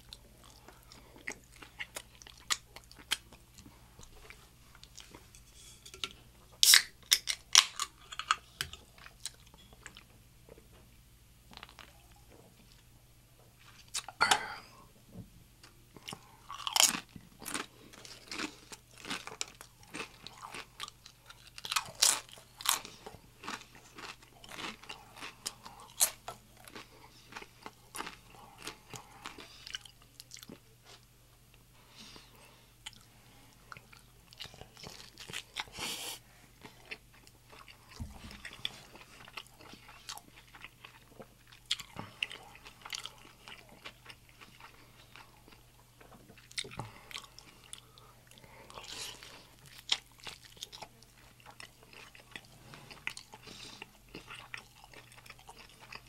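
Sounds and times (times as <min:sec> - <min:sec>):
crunching and chewing chips: 0:00.0 - 0:05.4, 0:06.6 - 0:10.1, 0:11.5 - 0:12.9, 0:15.6 - 0:31.1, 0:32.2 - 0:56.0.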